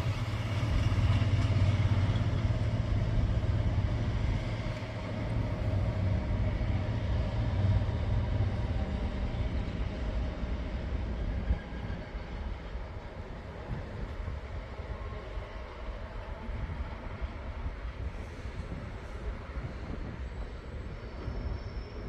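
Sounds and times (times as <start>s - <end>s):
diesel train hum: 0.0s - 22.0s
wagon and rail noise: 0.0s - 22.0s.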